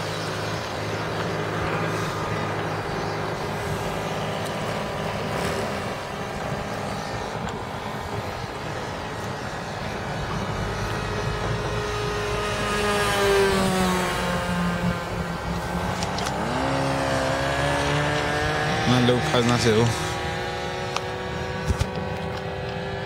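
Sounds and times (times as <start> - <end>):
model airplane motor droning: 0.0 - 23.0.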